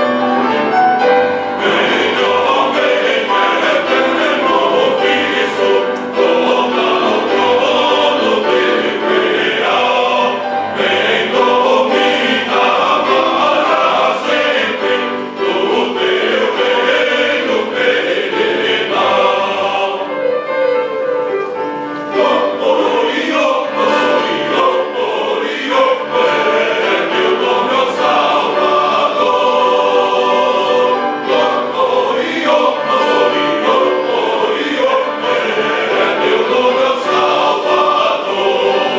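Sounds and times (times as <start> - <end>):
choir singing a hymn: 0.0 - 38.9
instrumental accompaniment: 0.0 - 38.9.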